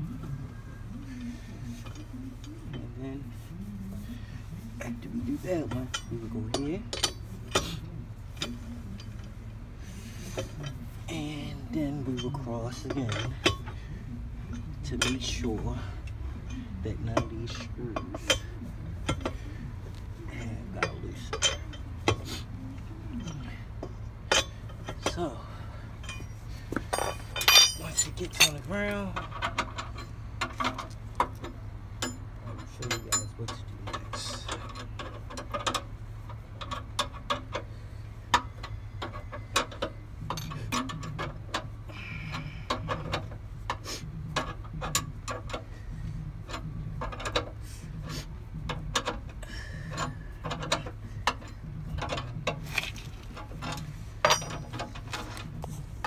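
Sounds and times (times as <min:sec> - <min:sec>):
rhythmic low scraping: 0:00.0 - 0:56.0.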